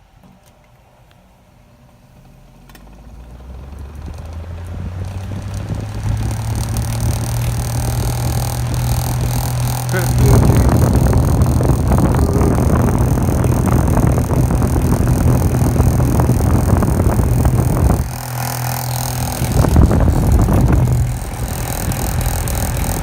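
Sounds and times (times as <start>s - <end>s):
electric fan motor humming roughly: 1.0s - 23.0s.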